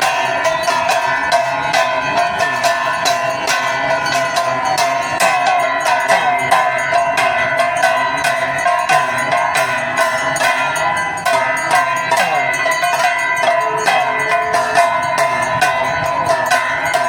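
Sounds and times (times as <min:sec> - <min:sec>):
bells and metal percussion clanging: 0:00.0 - 0:17.0.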